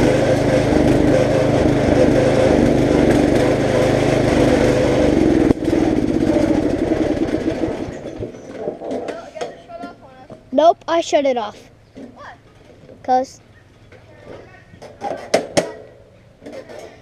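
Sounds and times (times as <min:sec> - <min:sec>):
lawn mower engine running: 0:00.0 - 0:09.2, 0:09.8 - 0:17.0.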